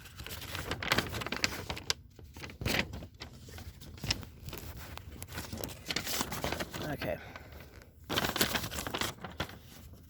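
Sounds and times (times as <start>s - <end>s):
paper and cardboard rustling: 0.0s - 10.0s.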